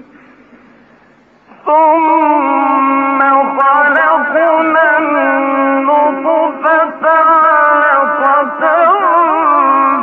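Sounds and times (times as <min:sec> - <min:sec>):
man chanting melodically: 0:01.5 - 0:10.0.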